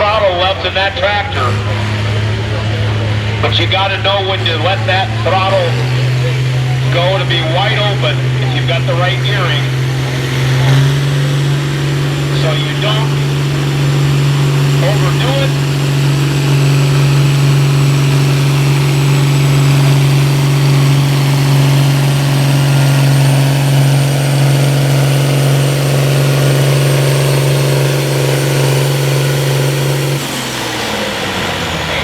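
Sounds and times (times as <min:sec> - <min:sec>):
tractor engine at full throttle: 0:00.0 - 0:32.0.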